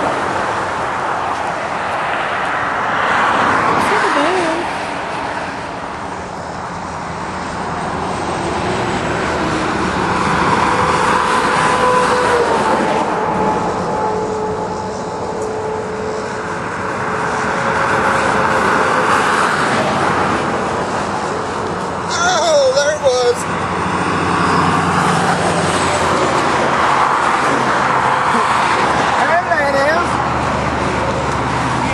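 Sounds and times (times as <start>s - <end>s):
vehicles passing close by: 0.0s - 31.9s.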